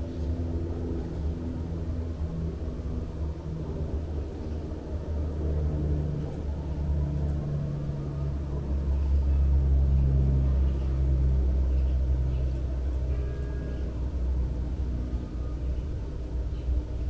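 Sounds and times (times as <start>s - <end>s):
hum shifting in pitch: 0.0s - 17.0s
vehicle engine rumbling: 0.0s - 17.0s.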